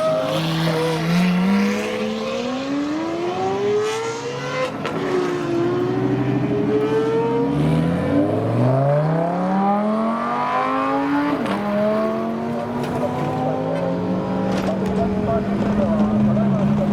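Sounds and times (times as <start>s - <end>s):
car engine revving: 0.0s - 16.9s
second car engine revving: 0.0s - 16.9s.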